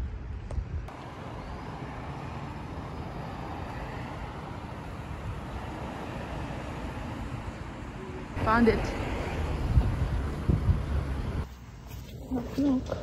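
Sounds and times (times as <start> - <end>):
cars driving past: 0.9 - 11.5.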